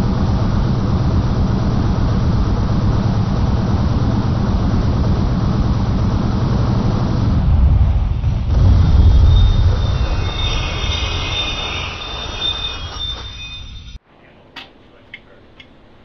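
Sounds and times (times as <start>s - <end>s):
high whine: 0.0s - 14.0s.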